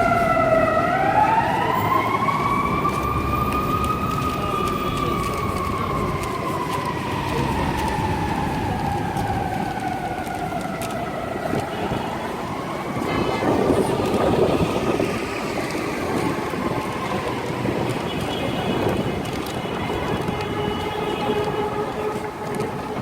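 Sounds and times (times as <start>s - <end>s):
city street noise: 0.0s - 23.0s
siren wailing: 0.0s - 23.0s
train rumbling: 0.0s - 23.0s.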